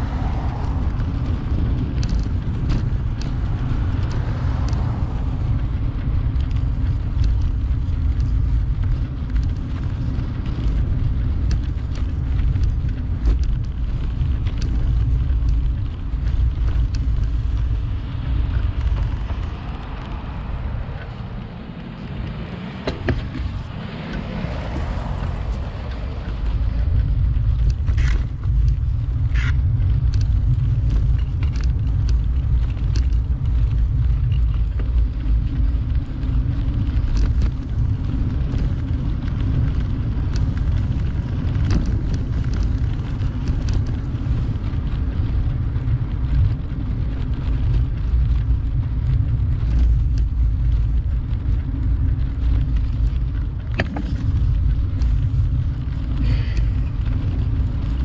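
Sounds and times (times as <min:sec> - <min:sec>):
tyre noise on road: 0:00.0 - 0:58.0
wind buffeting microphone: 0:00.0 - 0:58.0
light clicks and rattles: 0:00.4 - 0:58.0.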